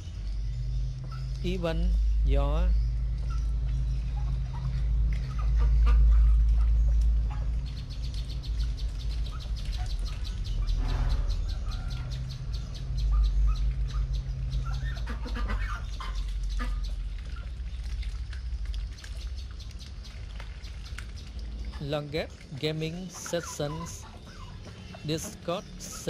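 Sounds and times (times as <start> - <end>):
bird chirps: 0.0 - 26.0
ducks dabbling in muddy water: 0.0 - 26.0.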